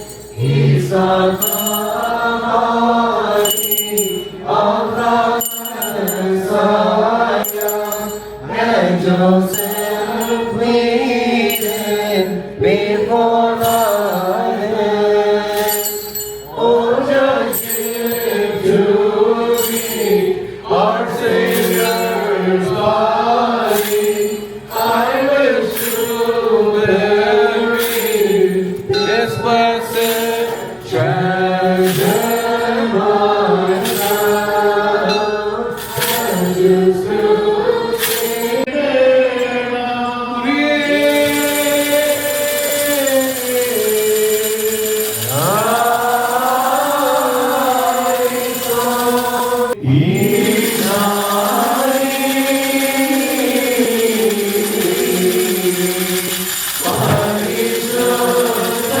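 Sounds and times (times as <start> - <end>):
sharp rhythmic strikes: 0.0 - 38.8, 40.6 - 59.0
chanted hymn: 0.0 - 59.0.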